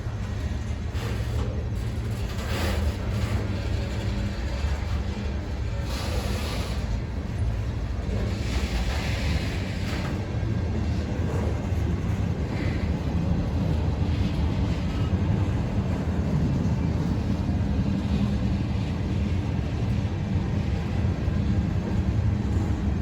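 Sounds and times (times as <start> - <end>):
freight train rumbling: 0.0 - 23.0
train rushing noise: 0.0 - 23.0.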